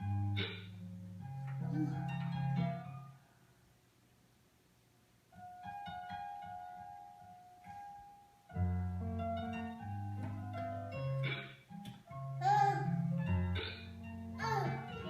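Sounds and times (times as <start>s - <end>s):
piano tune: 0.0s - 3.2s, 5.3s - 15.0s.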